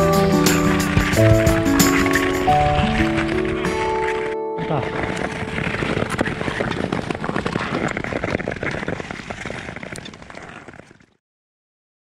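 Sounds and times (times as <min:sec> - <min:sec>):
skate blades scraping over ice: 0:00.0 - 0:11.2.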